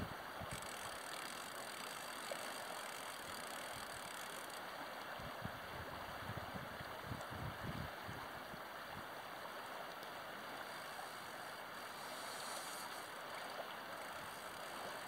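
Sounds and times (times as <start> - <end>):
river water rushing: 0.0 - 7.3, 7.9 - 15.0.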